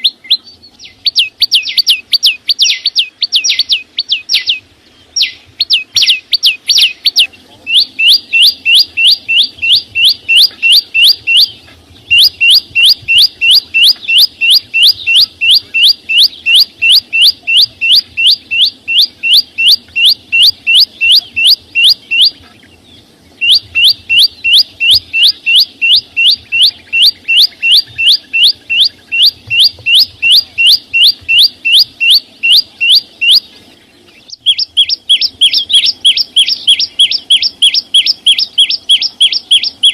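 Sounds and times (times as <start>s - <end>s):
songbird calling sharp notes: 0.0s - 39.9s.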